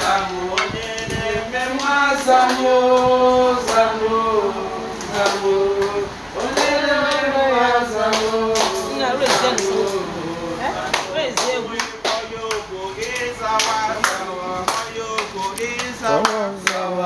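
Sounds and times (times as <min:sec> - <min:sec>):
people singing a hymn: 0:00.0 - 0:17.0.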